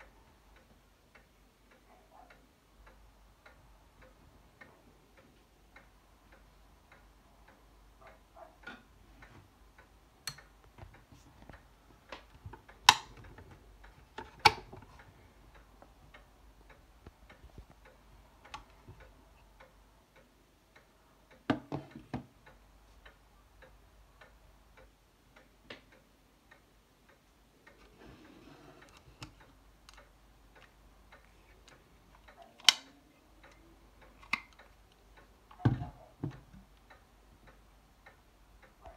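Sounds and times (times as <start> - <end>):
metal lamp clicking and ticking: 0.0 - 38.9.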